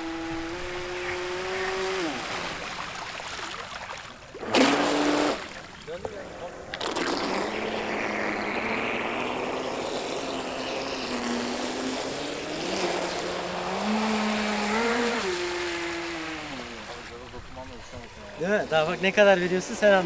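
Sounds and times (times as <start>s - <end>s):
electric boat motor whining: 0.0s - 2.8s, 4.3s - 5.8s, 6.6s - 20.0s.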